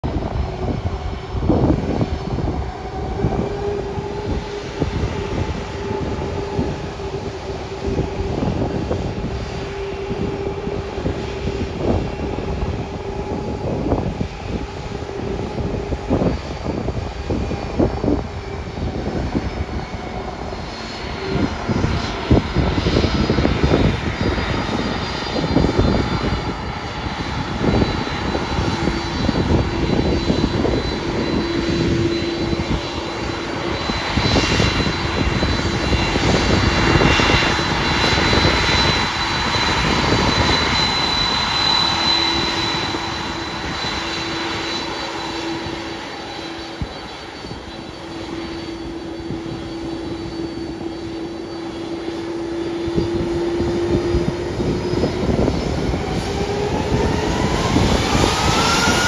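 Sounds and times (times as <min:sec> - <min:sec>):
high engine whine: 0:00.0 - 0:59.0
jet engines humming: 0:00.0 - 0:59.0.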